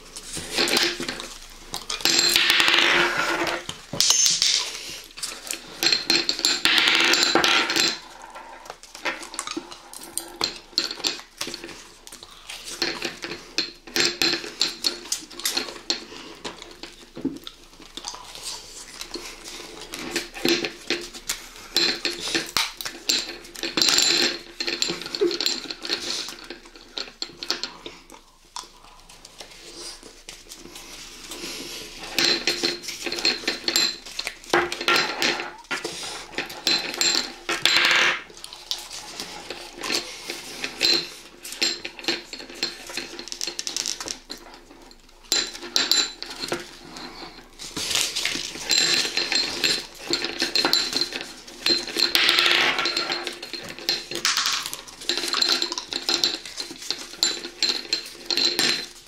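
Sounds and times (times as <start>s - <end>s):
tableware clinking: 0.3s - 11.8s, 18.9s - 28.1s, 30.8s - 59.0s.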